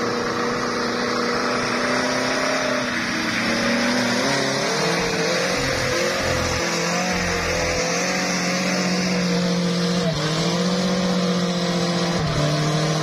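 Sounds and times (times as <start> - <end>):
pickup engine at high revs: 0.0 - 13.0.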